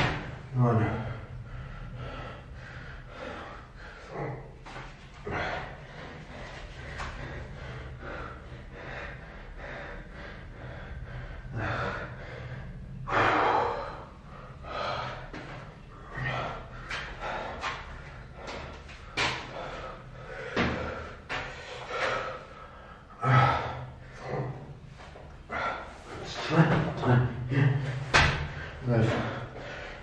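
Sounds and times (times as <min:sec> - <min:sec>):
man breathing hard and gasping: 0:00.0 - 0:30.0.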